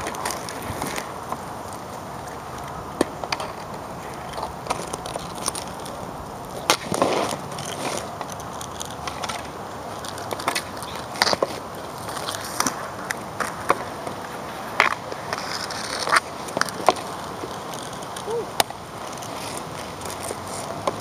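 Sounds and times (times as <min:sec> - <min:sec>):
hockey sticks scraping on asphalt: 0:00.0 - 0:21.0.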